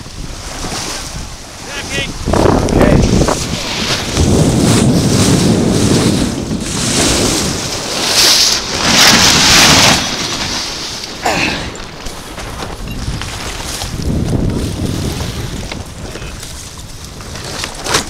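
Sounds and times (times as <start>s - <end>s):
water rushing along hull: 0.0s - 18.0s
wind buffeting microphone: 0.0s - 18.0s.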